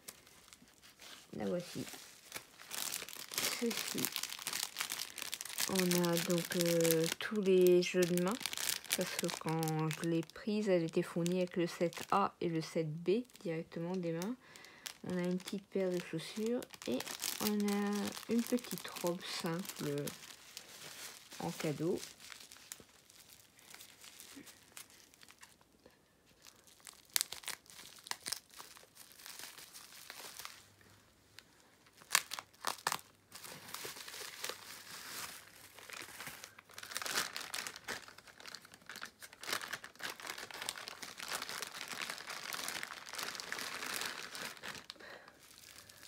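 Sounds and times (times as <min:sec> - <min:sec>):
bubble wrap and plastic bag crinkling: 0:00.0 - 0:46.0.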